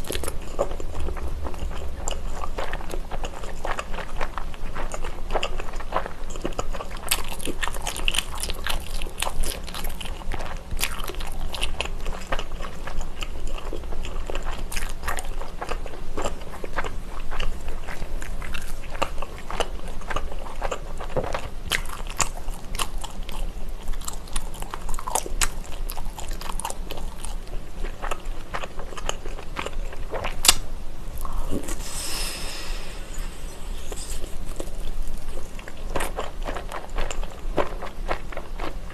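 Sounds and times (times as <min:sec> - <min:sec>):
biting and chewing food: 0:00.0 - 0:38.9.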